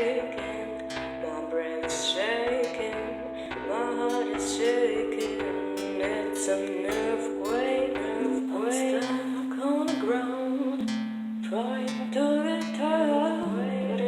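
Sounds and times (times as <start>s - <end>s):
plucked guitar notes: 0.0s - 14.0s
sustained bass tones: 0.0s - 14.0s.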